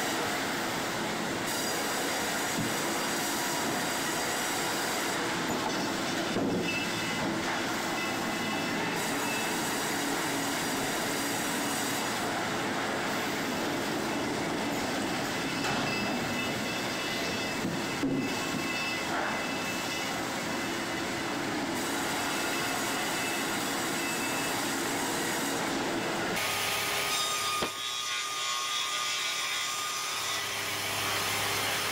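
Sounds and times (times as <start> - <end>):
sawmill machinery din: 0.0 - 31.9.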